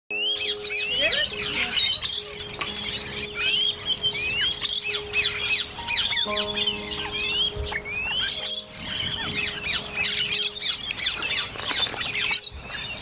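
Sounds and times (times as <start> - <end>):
small birds chirping: 0.1 - 13.0
held musical drone: 0.4 - 13.0.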